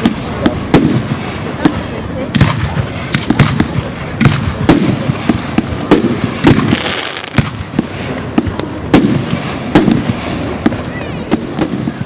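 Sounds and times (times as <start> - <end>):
rumble and hiss of fireworks: 0.0 - 12.0.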